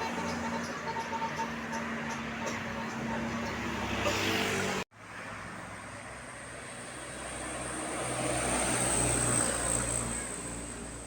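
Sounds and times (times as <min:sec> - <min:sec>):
vehicle high whine: 0:00.0 - 0:11.0.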